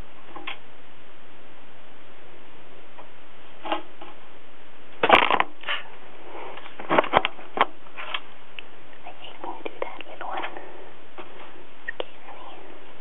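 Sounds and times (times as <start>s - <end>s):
recording hiss: 0.0s - 13.0s.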